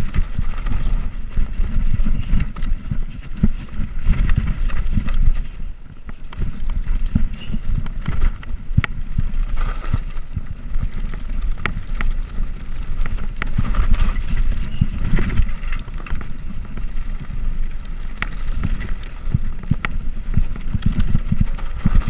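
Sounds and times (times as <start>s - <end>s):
bicycle tyres rolling: 0.0s - 22.0s
wind on microphone: 0.0s - 22.0s.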